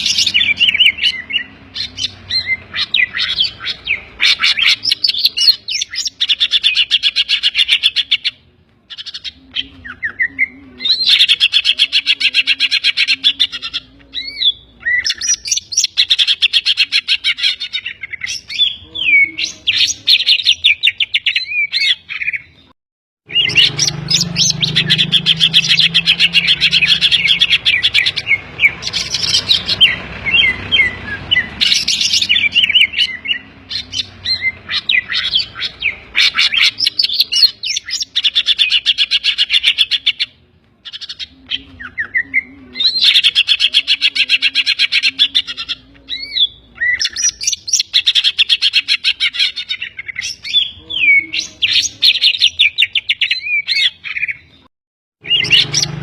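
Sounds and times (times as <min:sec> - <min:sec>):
bird singing trills: 0:00.0 - 0:22.7, 0:23.3 - 0:56.0.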